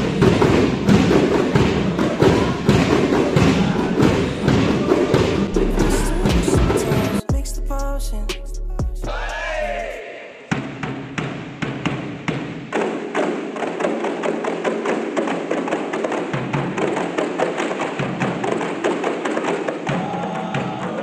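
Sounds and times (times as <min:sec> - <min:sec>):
frame drums beating fast rhythm: 0:00.0 - 0:21.0.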